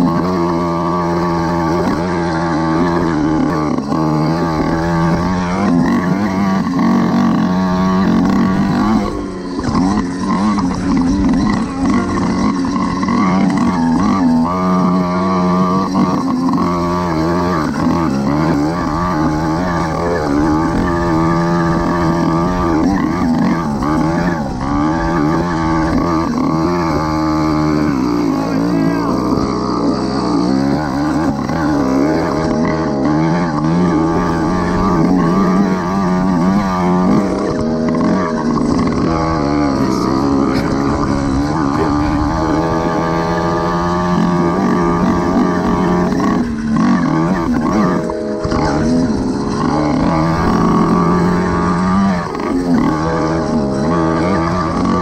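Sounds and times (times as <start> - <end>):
small petrol engine revving: 0.0 - 55.0.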